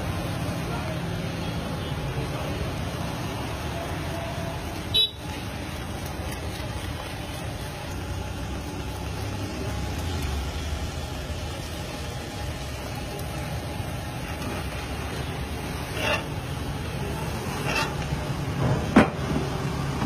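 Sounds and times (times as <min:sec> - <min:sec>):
low rumble of engines: 0:00.0 - 0:20.0.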